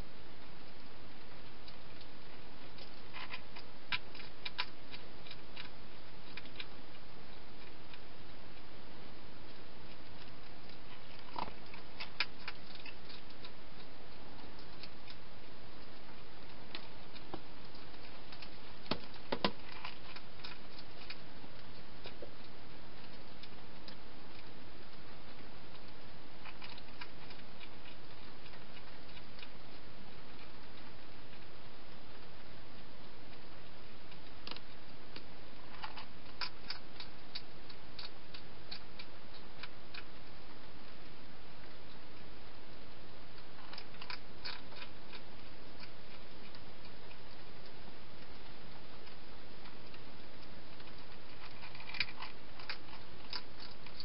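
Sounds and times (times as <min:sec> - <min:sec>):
hedgehog crunching food: 0:00.0 - 0:54.0
microphone hiss: 0:00.0 - 0:54.0.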